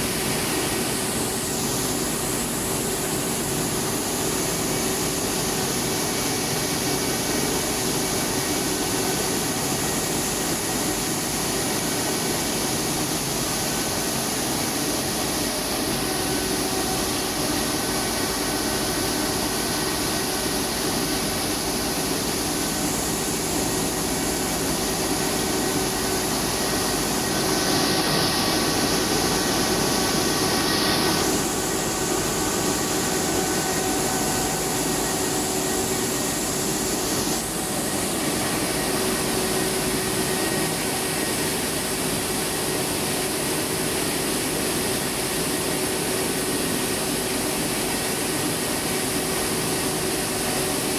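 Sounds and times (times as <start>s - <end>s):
mill machinery humming and hissing: 0.0s - 50.9s.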